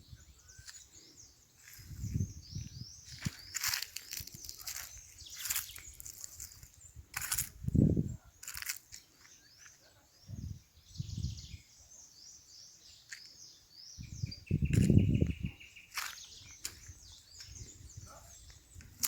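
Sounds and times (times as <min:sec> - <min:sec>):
wild birds chirping and whistling: 0:00.0 - 0:19.0.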